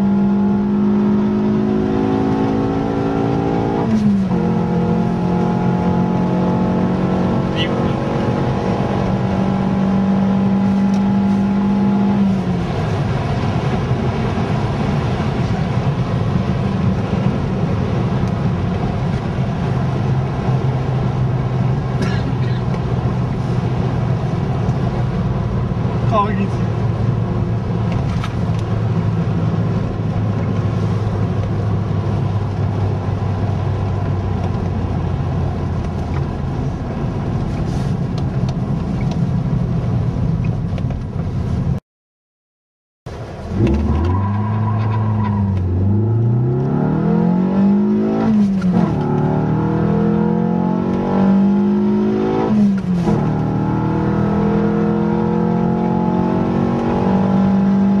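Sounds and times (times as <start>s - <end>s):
car engine accelerating: 0.0s - 41.7s, 43.1s - 58.0s
road noise: 0.0s - 41.8s, 43.1s - 58.0s.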